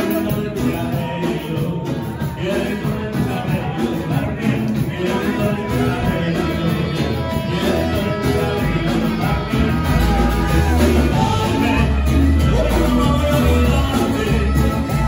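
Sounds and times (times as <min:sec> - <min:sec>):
music with singing: 0:00.0 - 0:15.0
steady bass line: 0:00.0 - 0:15.0.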